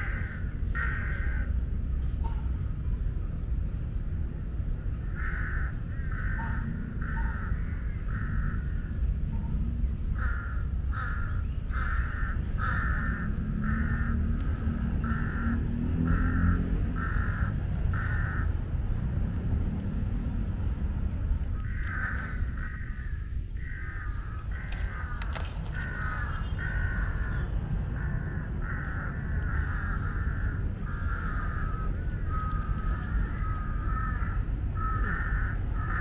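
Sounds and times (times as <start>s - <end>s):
crows cawing: 0.0s - 2.8s, 5.0s - 9.2s, 10.0s - 18.6s, 21.5s - 36.0s
steady low rumble: 0.0s - 36.0s.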